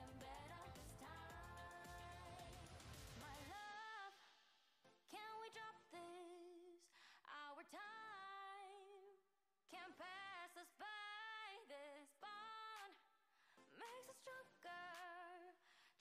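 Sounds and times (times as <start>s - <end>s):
woman singing a pop song: 0.0s - 16.0s.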